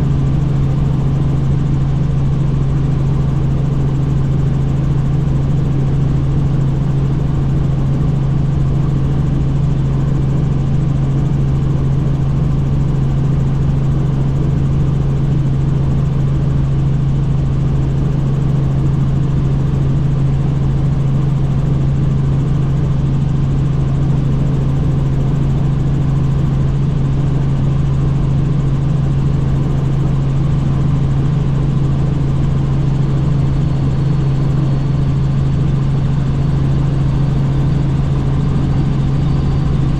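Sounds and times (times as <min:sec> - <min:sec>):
helicopter rotors and engine drone: 0:00.0 - 0:39.9.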